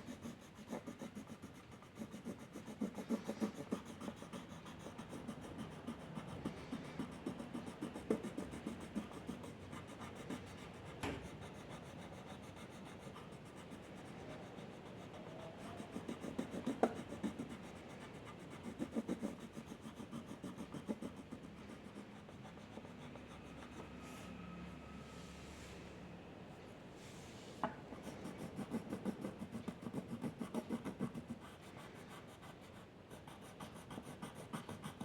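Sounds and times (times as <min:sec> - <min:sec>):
pencil scratching on paper: 0:00.0 - 0:24.4, 0:28.0 - 0:35.0.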